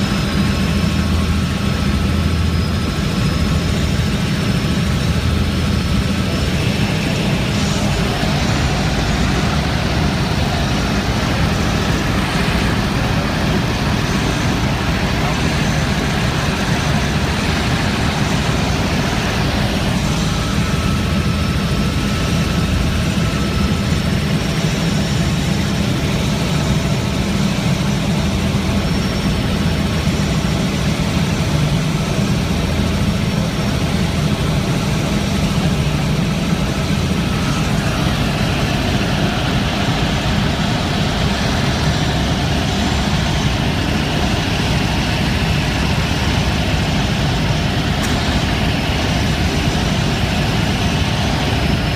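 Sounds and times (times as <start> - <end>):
helicopter engine and rotor drone: 0.0 - 51.9.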